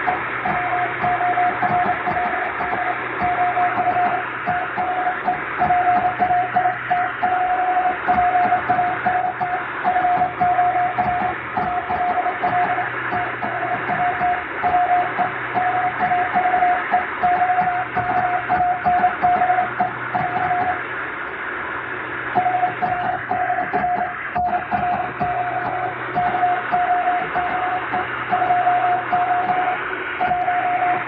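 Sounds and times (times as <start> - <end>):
radio hiss: 0.0 - 31.0
morse code beeps: 0.1 - 20.8, 22.4 - 31.0.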